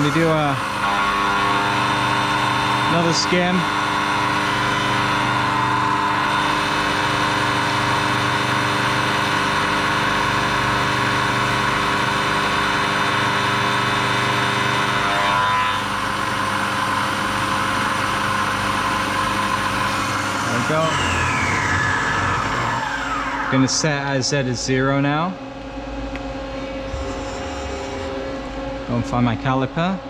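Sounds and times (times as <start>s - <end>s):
milling machine motor hum: 0.0s - 24.4s, 25.4s - 30.0s
falling machine whine: 0.0s - 30.0s.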